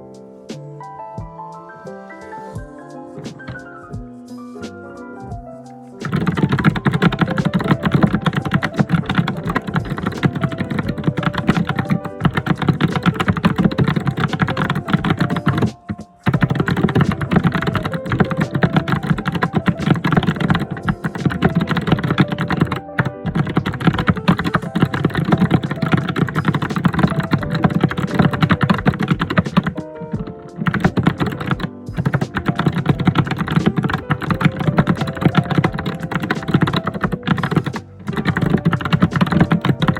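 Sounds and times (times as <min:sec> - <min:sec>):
fast keyboard typing: 0:06.0 - 0:39.9.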